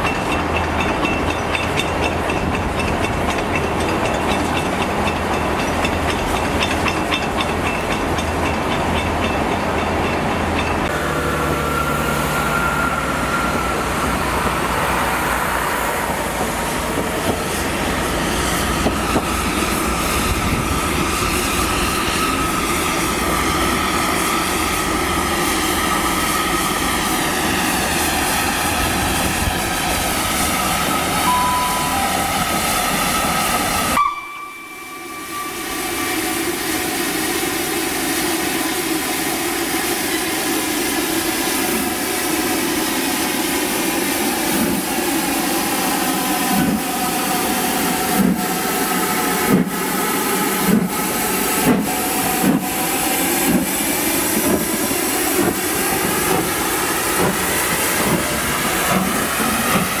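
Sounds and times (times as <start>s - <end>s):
steam locomotive exhaust chuffs: 0.0s - 60.0s
steam locomotive hissing: 0.0s - 60.0s.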